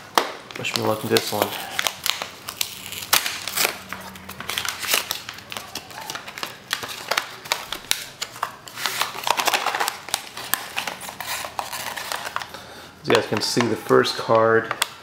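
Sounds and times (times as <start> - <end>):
plastic wrapper crinkling and tearing: 0.0 - 15.0.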